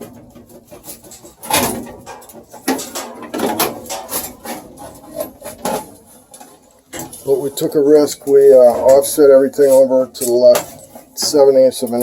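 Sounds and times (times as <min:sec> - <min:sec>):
metal scraping: 0:00.0 - 0:12.0
metallic knocks and clanks: 0:00.0 - 0:12.0.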